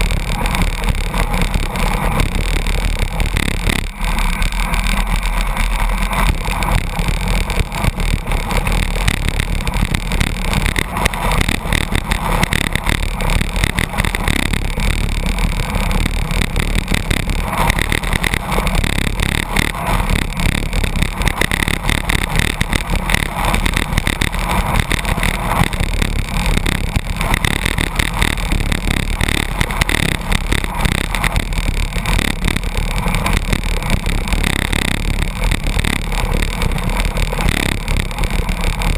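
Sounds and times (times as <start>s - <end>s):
fluttery wind buffeting: 0.0s - 38.9s
low rumble: 0.0s - 38.9s
road noise: 0.0s - 38.9s.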